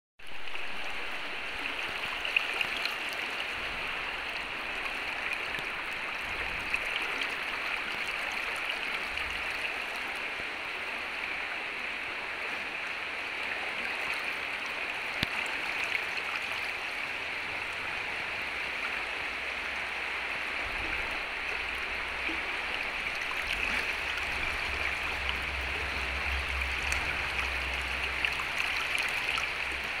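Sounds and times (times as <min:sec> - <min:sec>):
creek rushing: 0:00.2 - 0:30.0.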